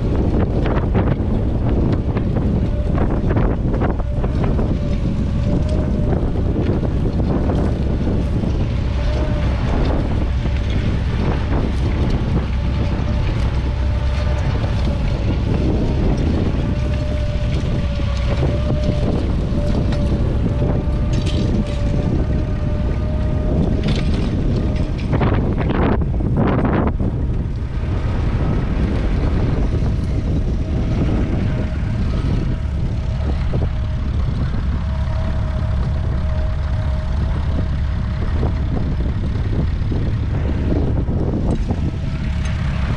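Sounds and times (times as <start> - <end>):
tractor engine running under load: 0.0 - 42.9
wind on microphone: 0.0 - 42.9.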